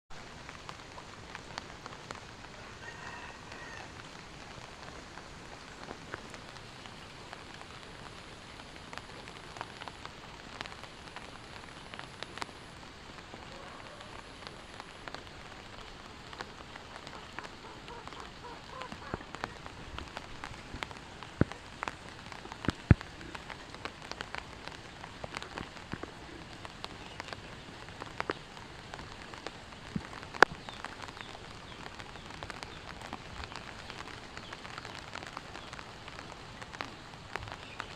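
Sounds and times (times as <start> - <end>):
rain hiss: 0.1 - 37.9
sharp raindrop impacts: 0.1 - 37.9.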